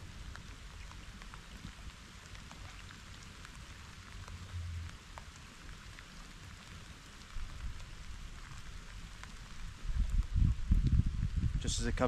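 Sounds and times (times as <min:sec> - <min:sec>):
raindrops ticking close by: 0:00.0 - 0:12.0
steady rain hiss: 0:00.0 - 0:12.0.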